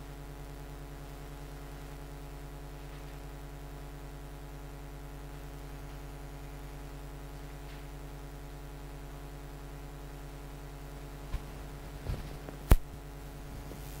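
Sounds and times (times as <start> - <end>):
electrical hum with buzz: 0.0 - 14.0.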